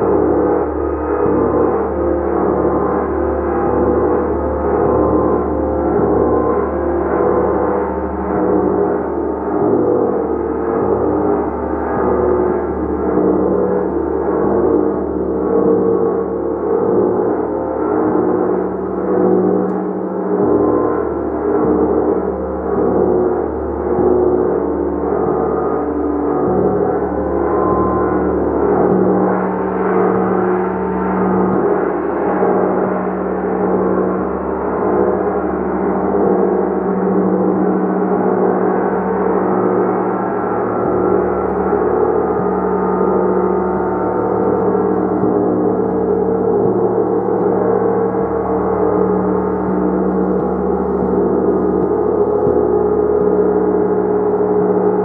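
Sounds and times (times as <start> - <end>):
deep steady hum: 0.0 - 55.0
gong ringing: 0.0 - 55.0.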